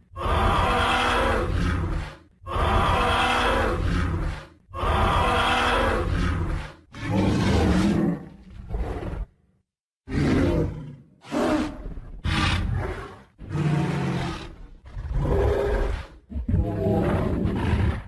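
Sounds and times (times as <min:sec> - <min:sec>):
deep dinosaur roars: 0:00.0 - 0:09.4, 0:10.1 - 0:18.0.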